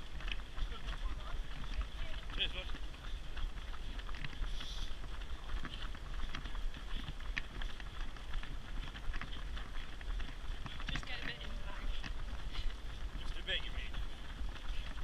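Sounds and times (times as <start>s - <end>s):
running footsteps on tarmac: 0.0s - 15.0s.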